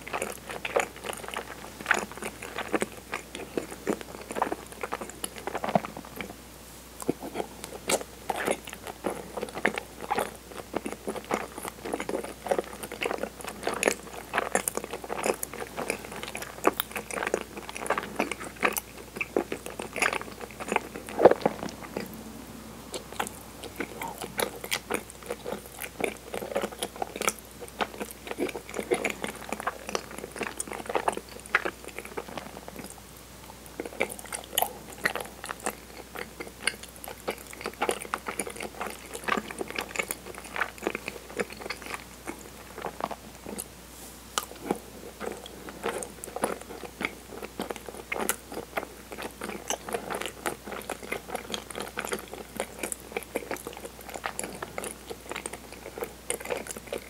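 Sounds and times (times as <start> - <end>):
chewing with wet mouth clicks: 0.0 - 6.4, 7.0 - 22.2, 22.9 - 43.7, 44.4 - 57.0.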